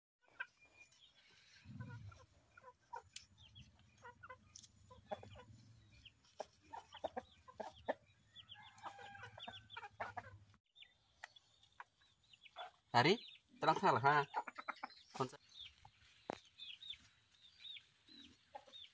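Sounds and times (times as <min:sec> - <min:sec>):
faint chickens clucking: 0:00.2 - 0:18.9.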